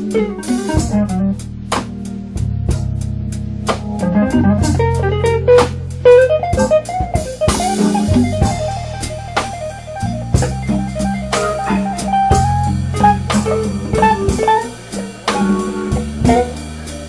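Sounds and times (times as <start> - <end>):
guitar lead line: 0.0 - 1.4, 3.8 - 17.0
bass: 0.0 - 17.0
drum kit: 0.0 - 17.0.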